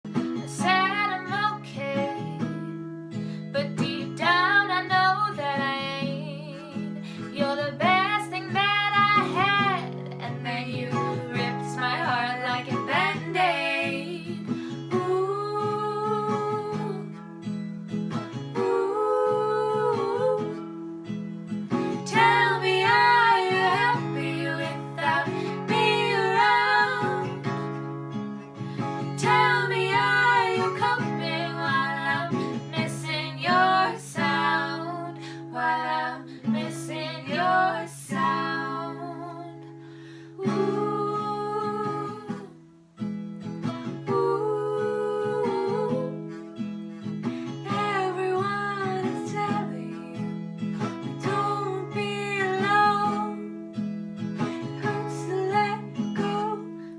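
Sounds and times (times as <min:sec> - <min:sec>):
acoustic guitar: 0:00.0 - 0:56.9
woman singing: 0:00.4 - 0:02.8, 0:03.5 - 0:17.3, 0:18.5 - 0:20.9, 0:21.8 - 0:28.0, 0:28.6 - 0:39.8, 0:40.4 - 0:42.6, 0:43.9 - 0:46.6, 0:47.4 - 0:53.6, 0:54.4 - 0:56.9.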